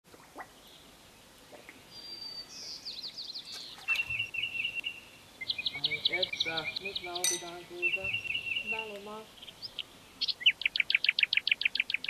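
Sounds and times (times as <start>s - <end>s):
songbirds singing: 0.1s - 12.0s.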